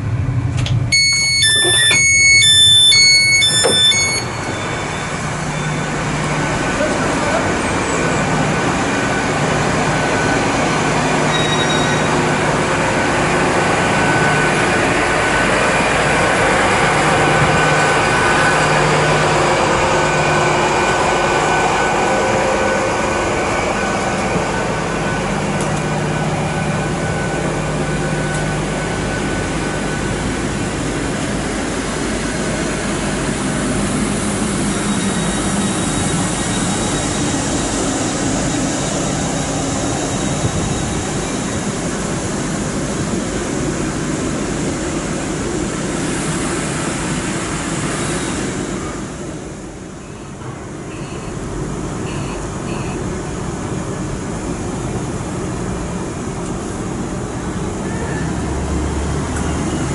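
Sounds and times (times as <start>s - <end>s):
train engines humming: 0.0s - 59.9s.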